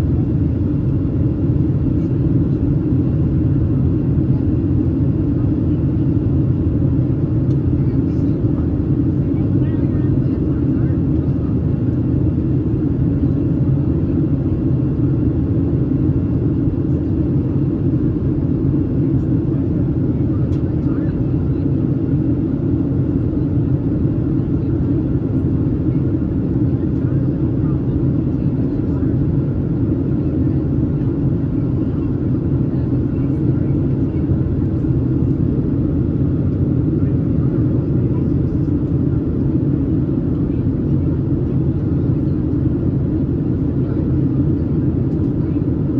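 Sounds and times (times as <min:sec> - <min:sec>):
jet engine drone in cabin: 0:00.0 - 0:45.9.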